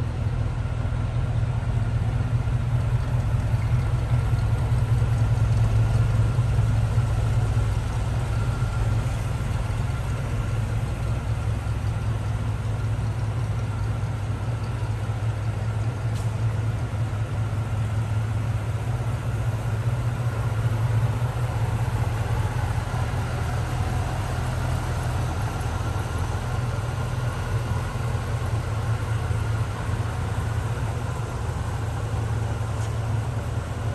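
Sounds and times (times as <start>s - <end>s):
pickup truck engine idling: 0.0s - 33.9s.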